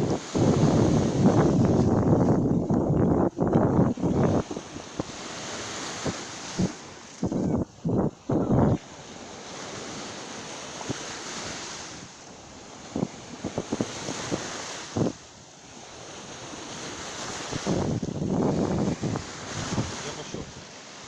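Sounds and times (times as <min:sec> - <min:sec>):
wind buffeting microphone: 0:00.0 - 0:20.8
sea surf washing: 0:00.0 - 0:21.0.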